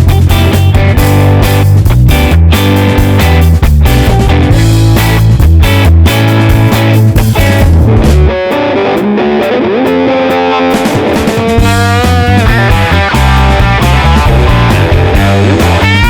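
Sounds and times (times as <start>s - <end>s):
heavy bass: 0.0s - 9.2s, 10.7s - 16.0s
rock music with electric guitar: 0.0s - 16.0s
sliding lead guitar line: 0.0s - 16.0s.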